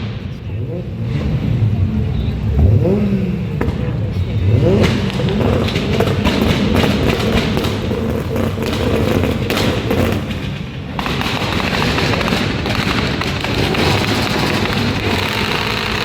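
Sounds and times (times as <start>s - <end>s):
car engine exhaust rumble: 0.0s - 16.0s
exhaust crackling pops: 2.4s - 16.0s.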